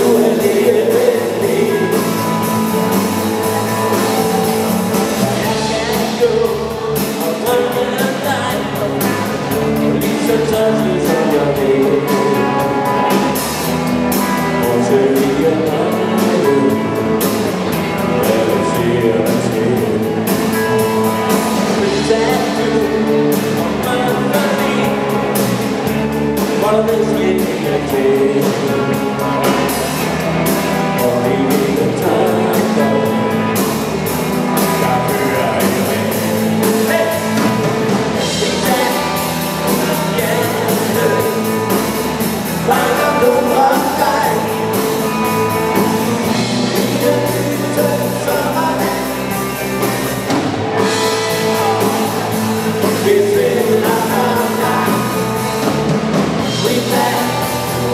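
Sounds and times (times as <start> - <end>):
drum kit: 0.0 - 57.9
electric guitars: 0.0 - 57.9
person singing: 0.0 - 57.9.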